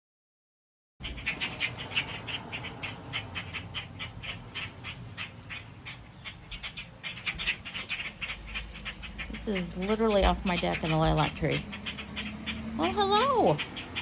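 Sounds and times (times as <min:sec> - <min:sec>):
blackbirds squawking alarm calls: 0:01.0 - 0:14.0.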